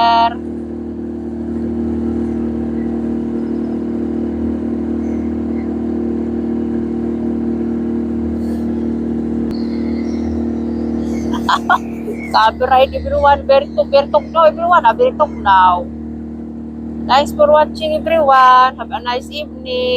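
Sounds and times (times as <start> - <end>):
boat engine droning: 0.0 - 19.9.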